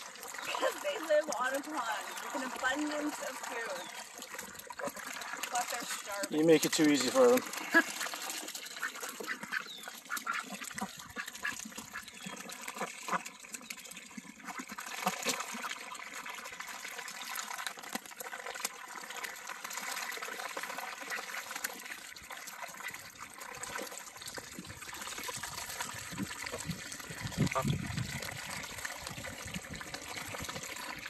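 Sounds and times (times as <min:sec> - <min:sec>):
ducks slurping wet feed: 0:00.0 - 0:31.0.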